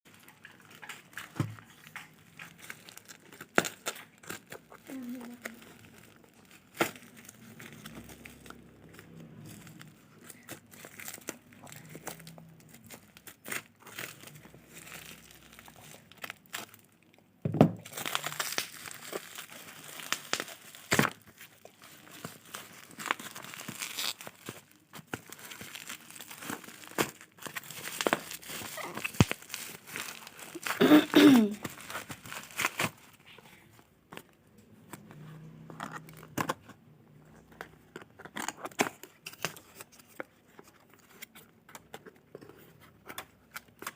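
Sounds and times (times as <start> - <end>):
packaging crinkling and tearing: 0.1 - 43.9.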